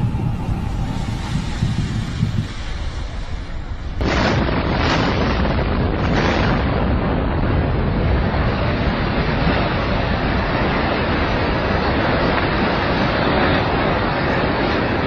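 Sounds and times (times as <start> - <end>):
building collapsing rumble: 0.0 - 15.0
demolition blasts: 0.0 - 15.0.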